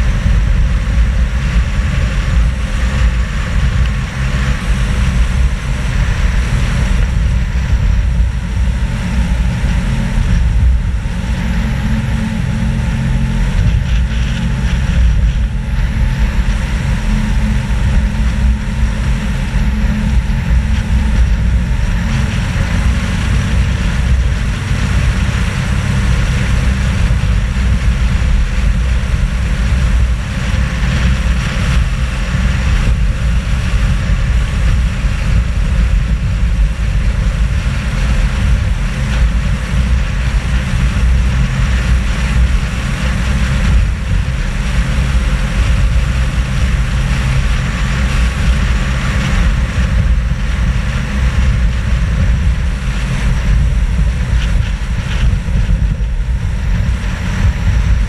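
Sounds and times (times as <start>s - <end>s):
engine and road drone: 0.0s - 58.0s
wind rumble on microphone: 0.0s - 58.0s.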